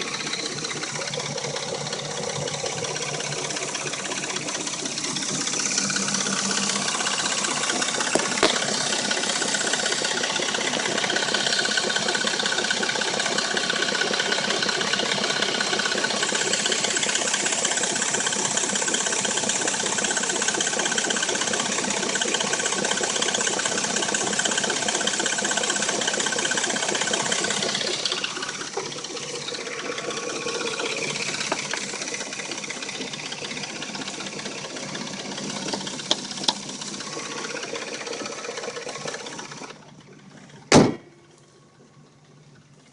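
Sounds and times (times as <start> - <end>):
car engine rattling and knocking: 0.0 - 42.9.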